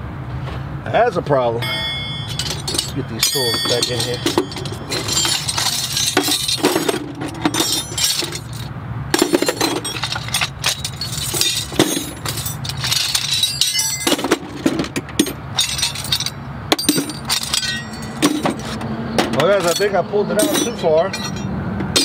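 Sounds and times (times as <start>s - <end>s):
hand tools clanking in metal toolbox: 1.6s - 22.0s.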